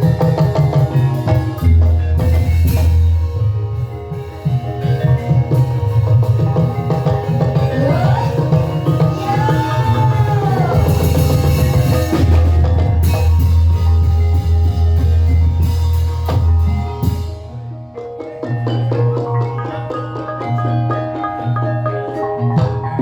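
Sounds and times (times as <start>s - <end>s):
drums and gamelan-style music: 0.0s - 23.0s.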